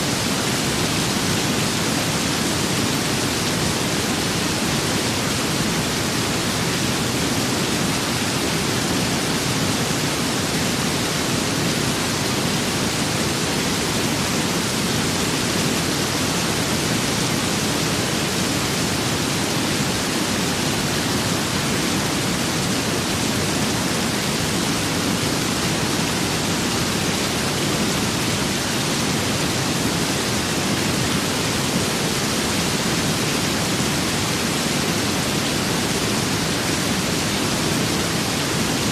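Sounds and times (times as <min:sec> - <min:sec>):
steady rain with wind: 0:00.0 - 0:38.9.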